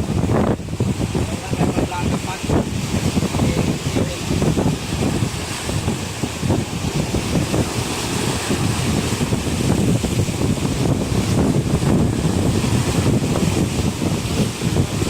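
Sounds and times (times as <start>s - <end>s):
sea wash hiss: 0.0s - 15.0s
wind buffeting microphone: 0.0s - 15.0s.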